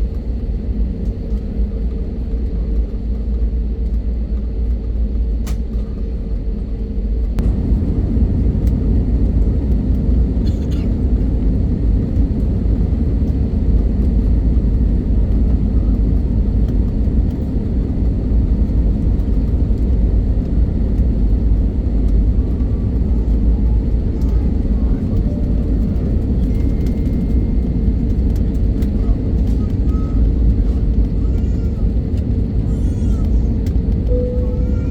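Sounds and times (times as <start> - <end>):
jet engine rumble in cabin: 0.0 - 34.9.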